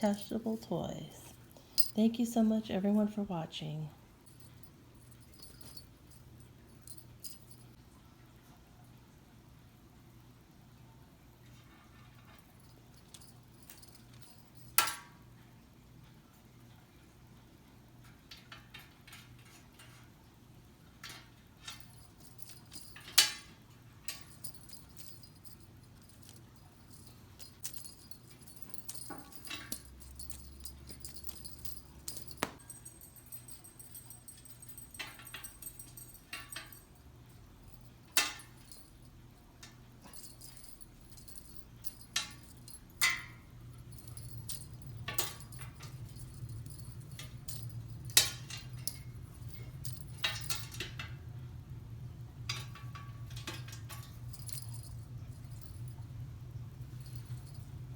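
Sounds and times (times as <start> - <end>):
light clicks and jingles: 0.0 - 3.3, 4.0 - 7.8, 11.5 - 15.3, 17.9 - 57.9
faint low hum: 0.0 - 57.9.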